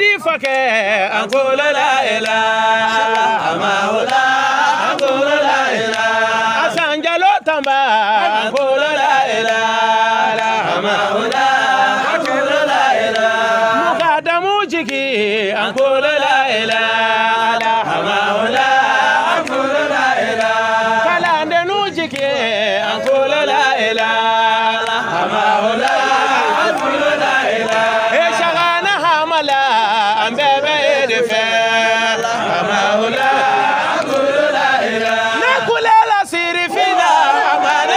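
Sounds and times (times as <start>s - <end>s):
man chanting devotional song: 0.0s - 37.8s.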